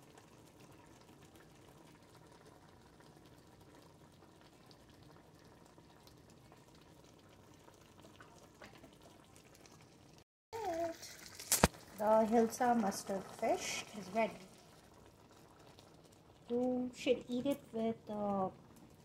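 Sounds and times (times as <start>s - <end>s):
gravy bubbling in a pan: 0.0s - 19.0s.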